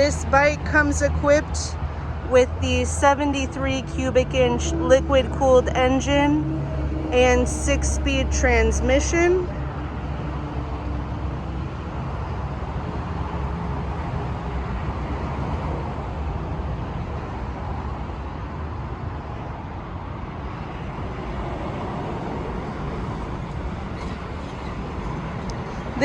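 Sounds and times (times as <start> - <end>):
motor vehicle noise: 0.0 - 26.0.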